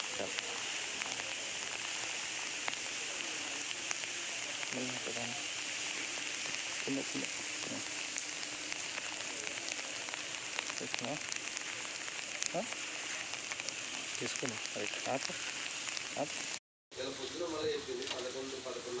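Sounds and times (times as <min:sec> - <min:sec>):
rain hissing on water: 0:00.0 - 0:16.6.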